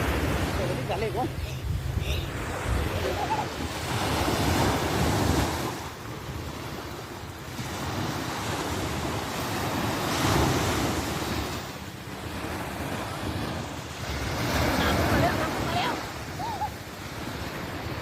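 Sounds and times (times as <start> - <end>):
sea waves breaking on shore: 0.0 - 18.0
wind buffeting microphone: 0.0 - 18.0.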